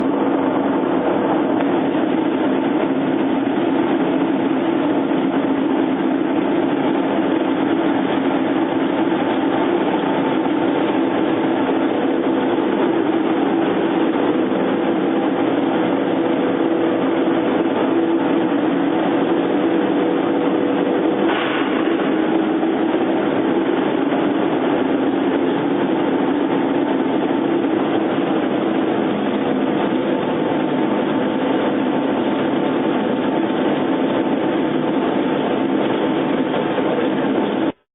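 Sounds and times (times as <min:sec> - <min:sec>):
steady mechanical hum: 0:00.0 - 0:37.9.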